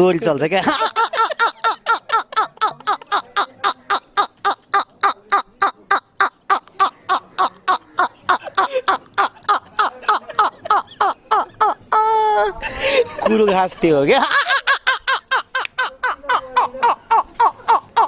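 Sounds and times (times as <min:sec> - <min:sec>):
man laughing heartily: 0:00.6 - 0:18.0.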